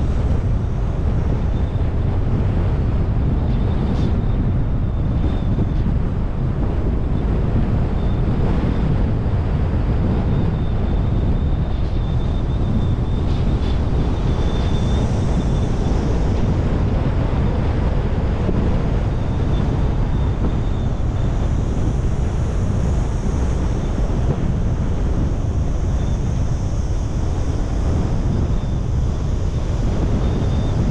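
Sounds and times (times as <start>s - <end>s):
road and engine noise: 0.0s - 30.9s
wind buffeting microphone: 0.0s - 30.9s.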